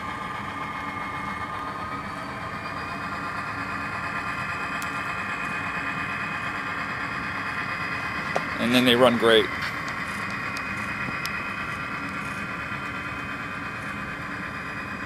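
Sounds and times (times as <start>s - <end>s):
diesel engine sound through small speaker: 0.0s - 15.0s.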